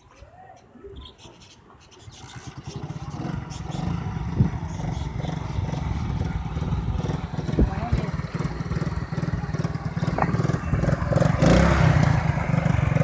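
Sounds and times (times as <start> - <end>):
motorcycle engine running: 2.2 - 13.0.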